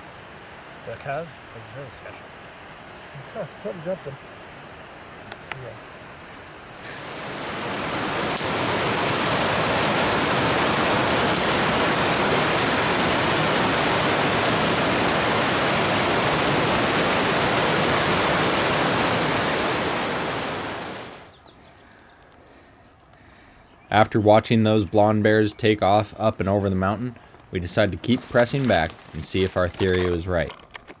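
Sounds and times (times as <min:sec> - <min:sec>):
steady rushing hiss: 0:00.0 - 0:21.4, 0:27.2 - 0:30.6.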